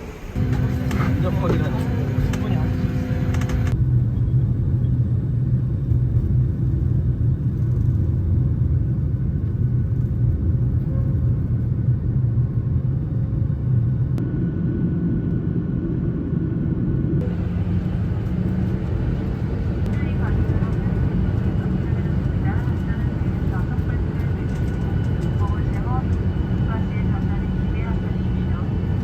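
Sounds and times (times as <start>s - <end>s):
vehicle interior rumble: 0.0s - 12.6s, 17.2s - 29.0s.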